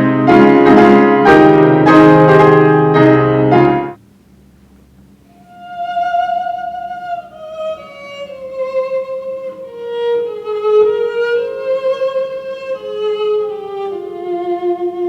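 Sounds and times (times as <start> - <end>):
violin playing slow melody: 0.0 - 4.0, 5.5 - 15.0.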